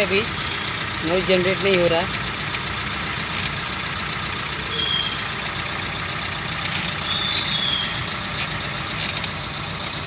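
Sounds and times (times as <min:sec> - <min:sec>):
brake squeaks: 0:00.0 - 0:10.0
car engine idling: 0:00.0 - 0:10.0.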